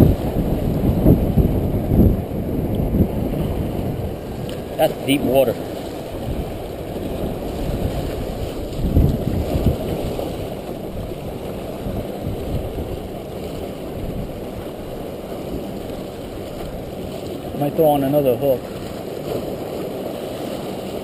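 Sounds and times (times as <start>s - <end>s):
waves washing against rocks: 0.0s - 21.0s
wind buffeting microphone: 0.0s - 21.0s.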